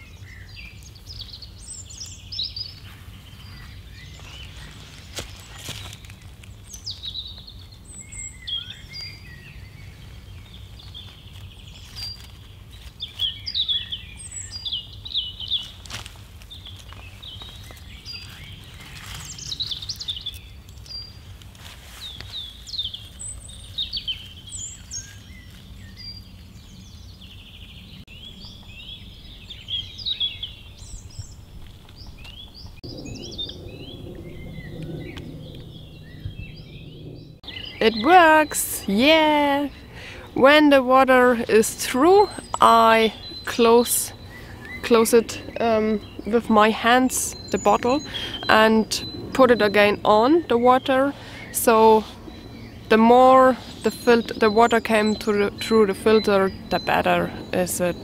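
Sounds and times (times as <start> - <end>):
songbirds chirping: 0.0 - 58.0
steady low rumble: 0.0 - 58.0.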